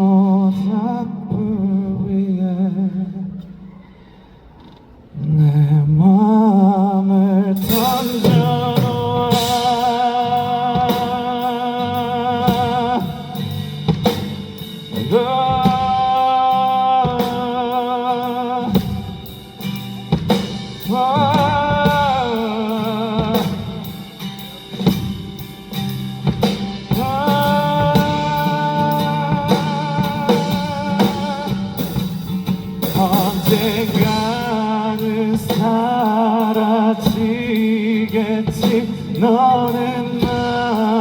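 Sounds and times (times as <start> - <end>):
man singing with vibrato: 0.0 - 3.6, 5.1 - 41.0
drum kit beat: 7.6 - 41.0.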